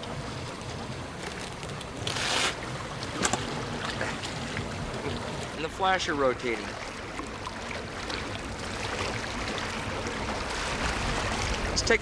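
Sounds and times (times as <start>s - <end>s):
boat motor running: 0.0s - 12.0s
water noise: 0.0s - 12.0s.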